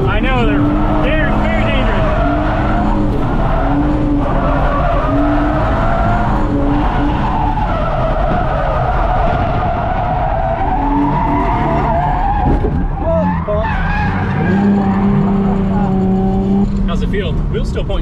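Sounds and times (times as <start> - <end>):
car engine revving high: 0.0 - 17.6
tyres skidding: 0.0 - 18.0.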